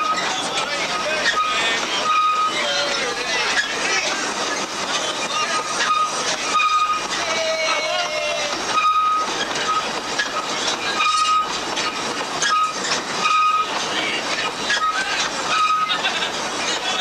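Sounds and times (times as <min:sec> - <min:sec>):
carriages rumbling on rails: 0:00.0 - 0:17.0
high squeaks: 0:00.0 - 0:17.0.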